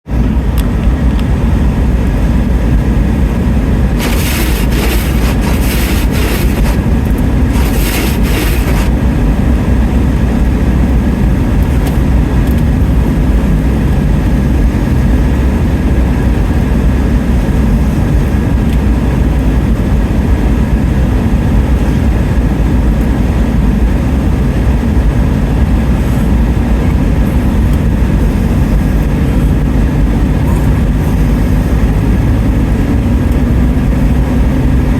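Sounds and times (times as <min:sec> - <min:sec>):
car cabin rumble: 0:00.0 - 0:34.9.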